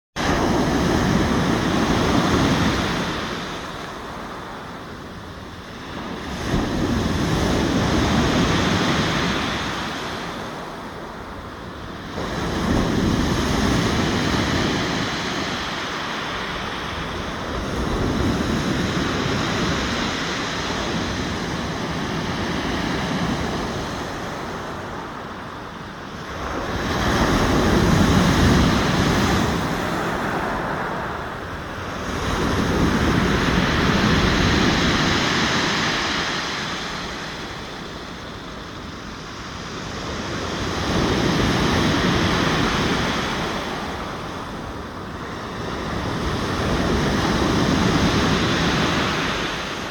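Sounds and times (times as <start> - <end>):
waves breaking on shore: 0.2 - 49.9.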